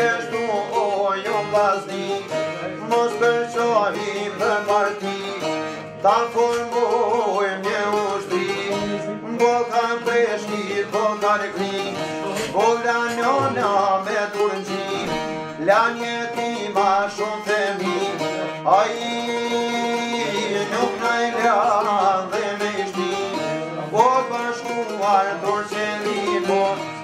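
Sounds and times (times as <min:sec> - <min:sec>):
plucked long-necked lutes: 0:00.0 - 0:27.0.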